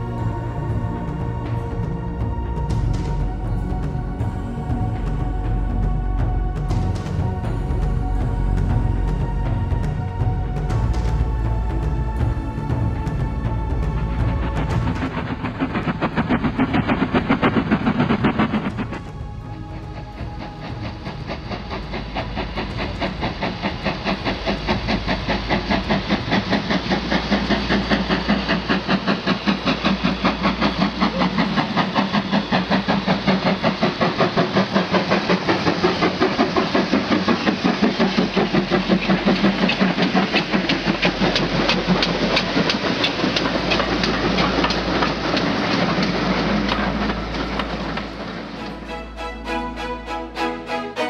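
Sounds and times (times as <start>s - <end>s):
steam locomotive chuffing: 0.0s - 51.0s.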